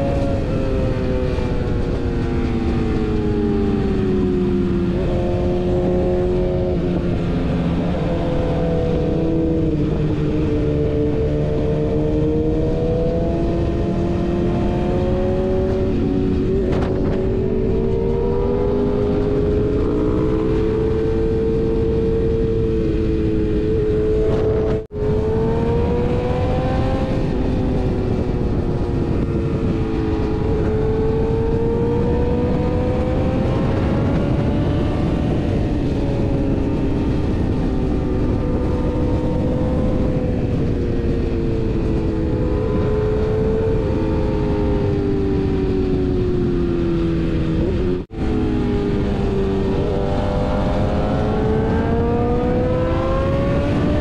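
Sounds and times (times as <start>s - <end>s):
motorcycle engine cruising: 0.0s - 54.0s
riding wind rush: 0.0s - 54.0s.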